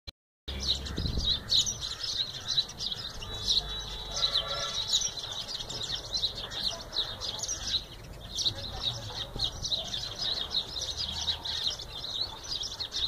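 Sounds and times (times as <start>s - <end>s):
sparrows chirping: 0.5s - 13.0s.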